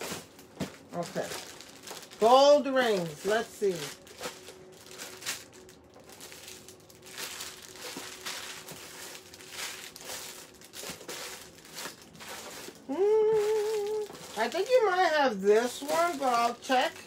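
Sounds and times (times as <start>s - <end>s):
jewelry rustling in a box: 0.0s - 17.0s.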